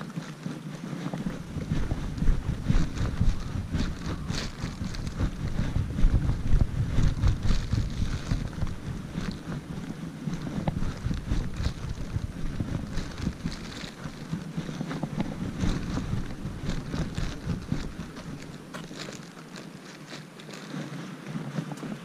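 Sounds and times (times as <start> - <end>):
rustles and clicks from walking: 0.0 - 22.0
wind buffeting microphone: 0.0 - 22.0.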